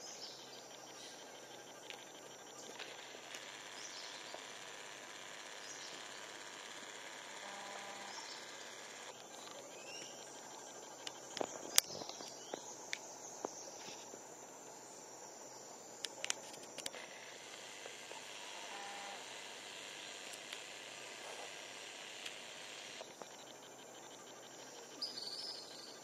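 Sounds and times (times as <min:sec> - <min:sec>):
high insect chorus: 0:00.0 - 0:26.0.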